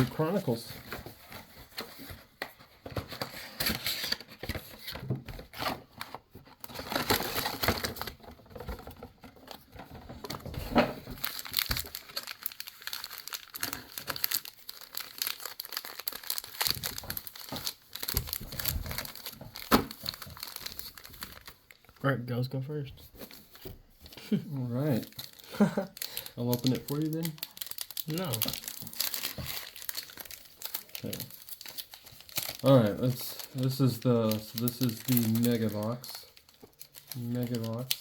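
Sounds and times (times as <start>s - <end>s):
plastic wrapping crinkling and tearing: 0.0s - 22.5s, 23.2s - 38.0s.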